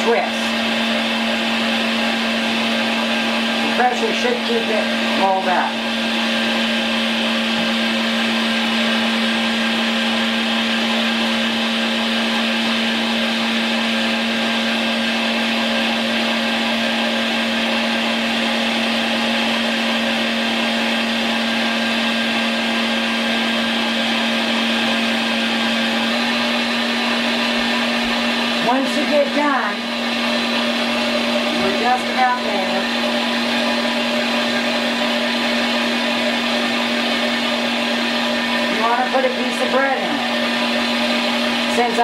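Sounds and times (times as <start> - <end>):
electric meat grinder humming: 0.0 - 42.0.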